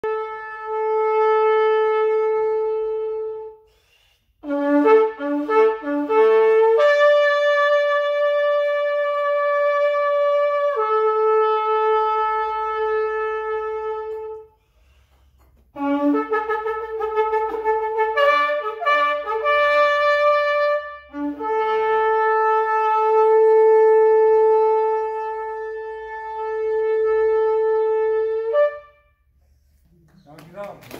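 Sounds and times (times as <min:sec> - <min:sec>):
shofar blasts: 0:00.0 - 0:03.8, 0:04.4 - 0:14.6, 0:15.7 - 0:29.3.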